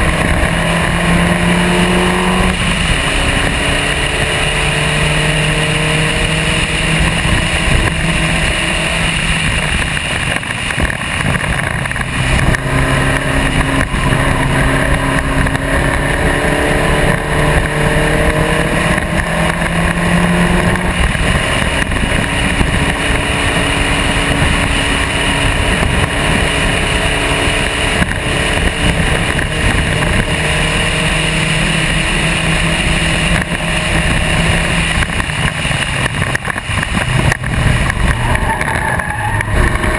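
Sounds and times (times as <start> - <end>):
racing car engine: 0.0 - 39.9
steady rushing noise: 0.0 - 39.9.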